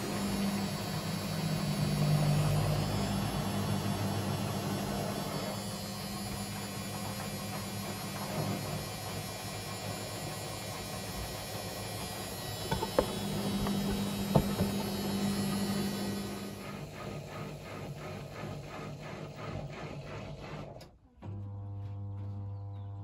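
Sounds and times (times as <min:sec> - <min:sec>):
washing machine drum motor hum: 0:00.0 - 0:20.5.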